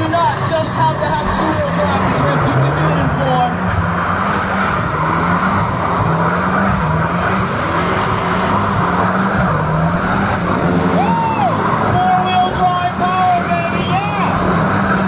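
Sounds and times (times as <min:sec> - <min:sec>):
car engine at high revs: 0:00.0 - 0:15.0
tyres spinning on tarmac: 0:00.0 - 0:15.0.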